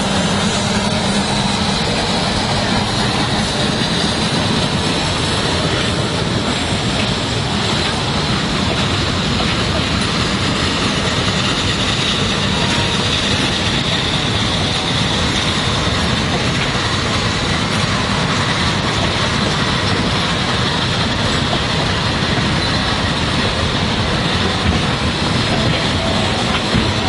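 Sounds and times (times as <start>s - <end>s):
steam locomotive exhaust: 0.0s - 27.0s
wheels clattering on rails: 0.0s - 27.0s.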